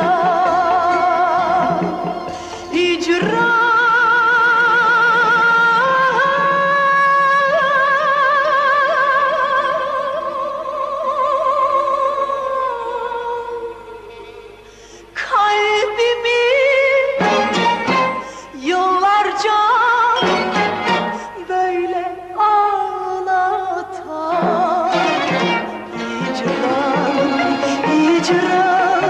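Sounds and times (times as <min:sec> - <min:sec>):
woman singing with vibrato: 0:00.0 - 0:29.0.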